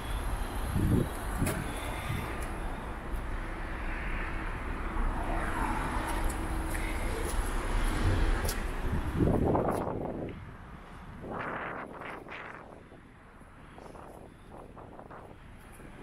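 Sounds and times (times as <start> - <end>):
vehicle traffic rumble: 0.0 - 16.0.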